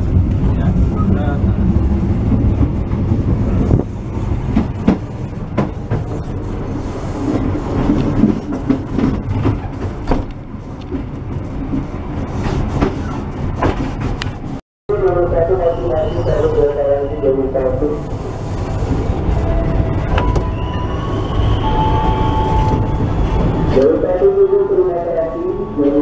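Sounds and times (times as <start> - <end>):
train low rumble: 0.0 - 26.0.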